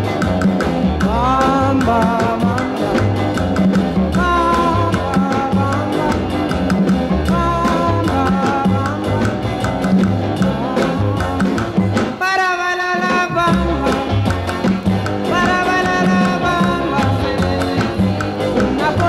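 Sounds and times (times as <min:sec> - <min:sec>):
drums and bass beat: 0:00.0 - 0:19.0
person singing: 0:01.0 - 0:03.4, 0:04.1 - 0:19.0.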